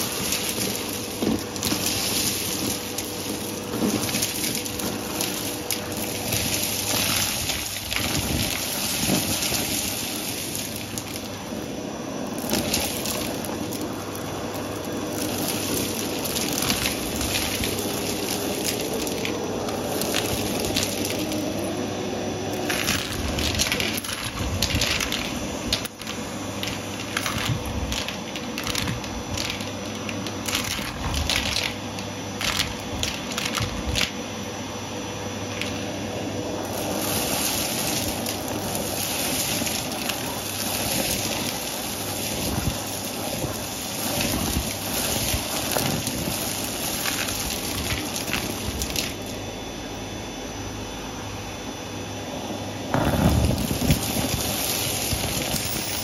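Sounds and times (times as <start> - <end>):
debris rattling up vacuum hose: 0.0 - 34.8, 35.4 - 49.5, 52.9 - 56.0
vacuum cleaner running: 0.0 - 56.0.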